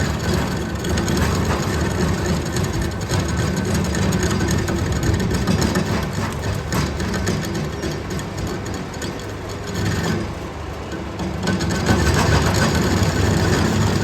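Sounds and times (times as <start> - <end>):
metal lathe running: 0.0 - 14.0.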